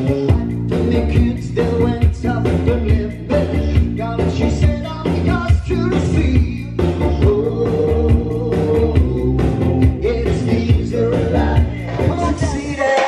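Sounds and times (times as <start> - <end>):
backing music with heavy bass: 0.0 - 13.0
man singing into microphone: 0.0 - 13.0.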